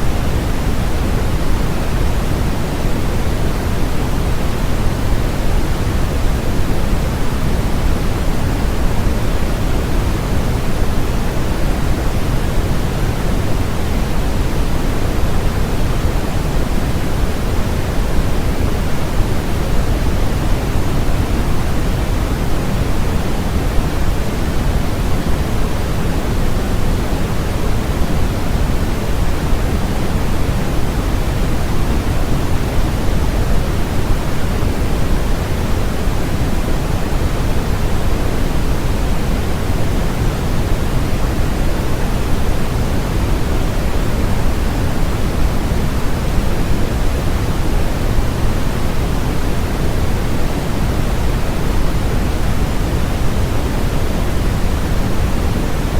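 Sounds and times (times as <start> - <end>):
steady electronic noise hiss: 0.0 - 55.9.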